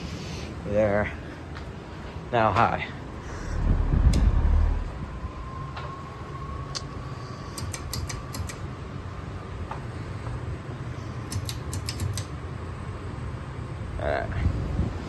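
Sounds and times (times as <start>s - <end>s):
ceiling fans rushing air: 0.0s - 15.0s.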